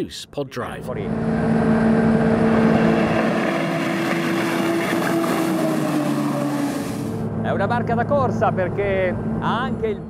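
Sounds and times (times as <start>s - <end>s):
powerboat engine drone: 0.6s - 10.0s.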